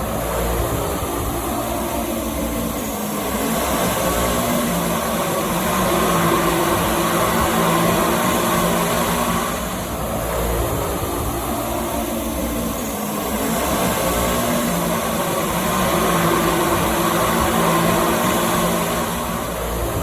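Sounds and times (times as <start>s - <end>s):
drone buzzing hum: 0.0s - 20.0s.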